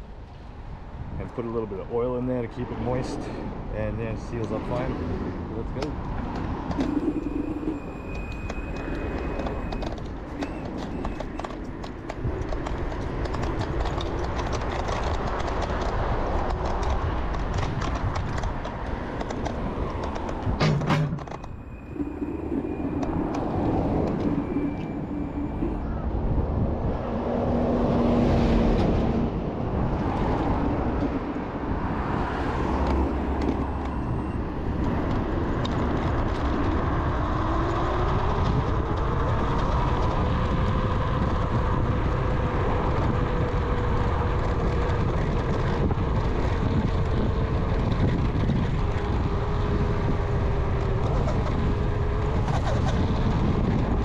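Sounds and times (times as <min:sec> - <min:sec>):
wind and tyre noise: 0:00.0 - 0:54.0.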